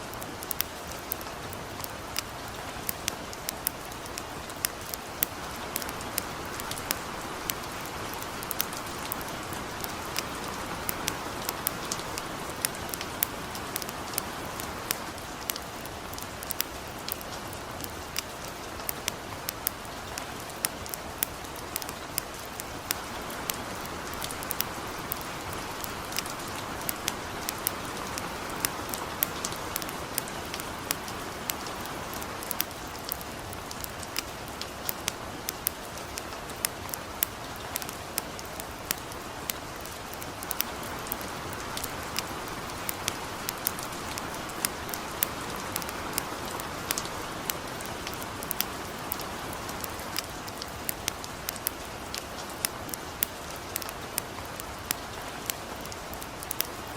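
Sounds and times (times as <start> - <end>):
campfire crackling: 0.0 - 56.9
light rain falling: 0.0 - 56.9.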